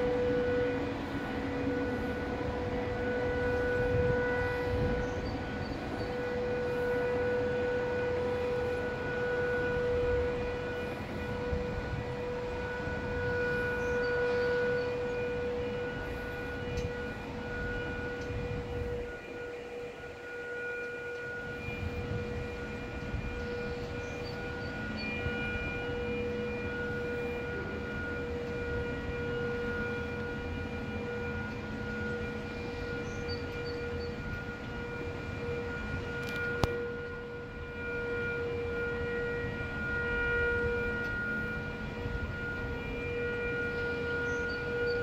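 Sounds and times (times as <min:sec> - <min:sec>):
warning siren steady tone: 0:00.0 - 0:45.0.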